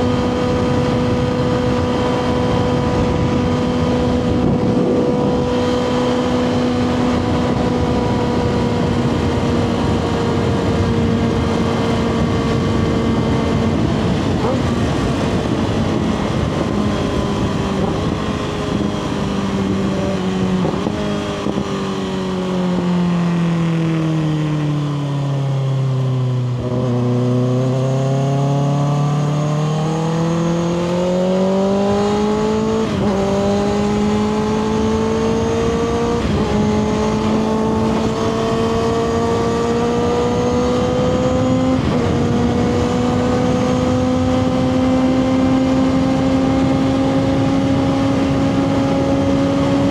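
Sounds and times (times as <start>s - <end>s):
motorcycle engine: 0.0s - 49.9s
wind noise: 0.0s - 49.9s.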